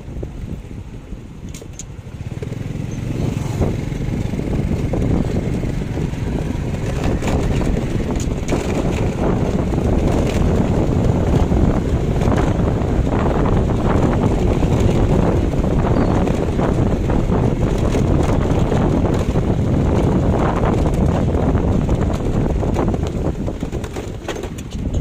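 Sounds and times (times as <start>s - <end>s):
motorcycle engine and road rumble: 0.0s - 25.0s
wind buffeting microphone: 0.0s - 25.0s.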